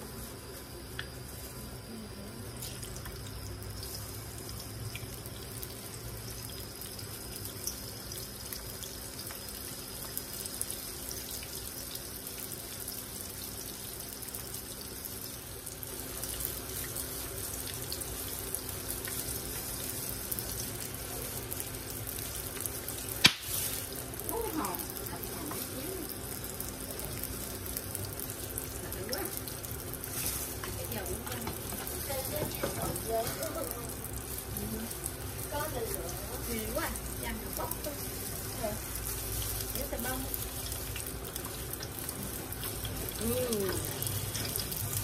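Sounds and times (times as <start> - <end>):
water running from a tap: 0.5 - 45.0.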